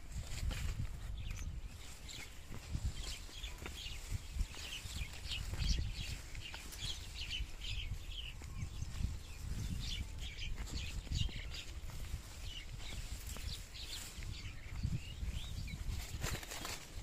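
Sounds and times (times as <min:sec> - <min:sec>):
small birds chirping: 0:00.0 - 0:17.0
wind rumbling on microphone: 0:00.0 - 0:17.0.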